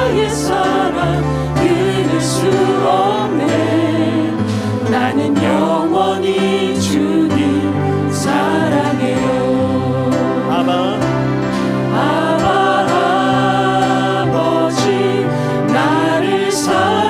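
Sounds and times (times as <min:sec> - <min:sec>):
group singing worship song: 0:00.0 - 0:17.0
instrumental accompaniment: 0:00.0 - 0:17.0.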